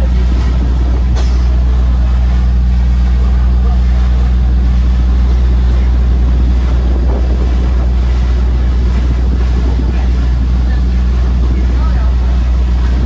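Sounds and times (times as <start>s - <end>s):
boat engine droning: 0.0s - 13.0s
water rushing past: 0.0s - 13.0s
wind on microphone: 0.0s - 13.0s.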